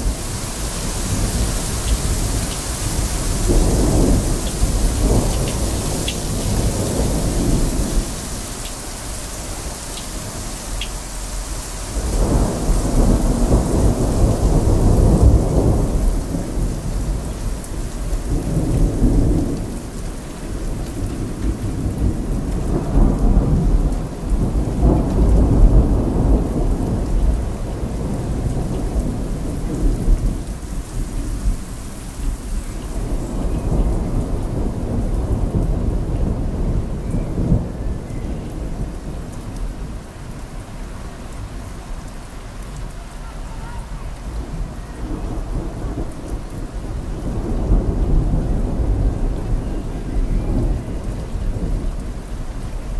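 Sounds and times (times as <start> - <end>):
thunder rumbling: 0.0 - 41.6, 42.8 - 52.9
heavy rain falling: 0.0 - 52.9.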